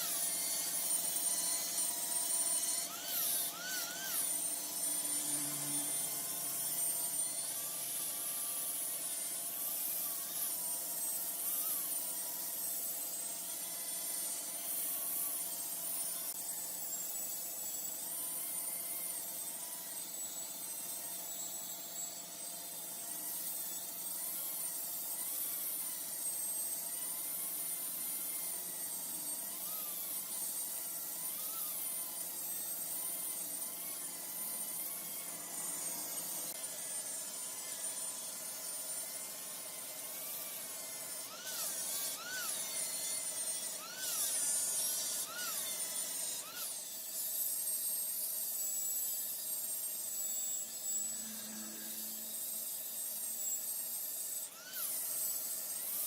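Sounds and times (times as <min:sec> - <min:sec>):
high wavering whine: 0:00.0 - 0:22.5, 0:23.1 - 0:46.8, 0:47.8 - 0:55.8.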